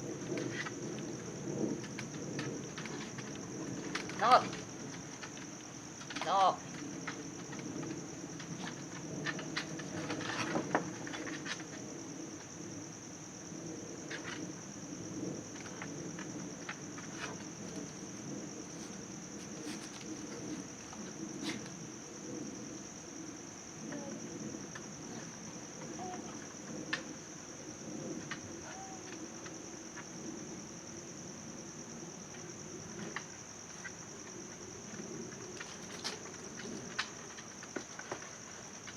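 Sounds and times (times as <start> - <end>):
high-pitched insect trill: 0.0 - 37.6.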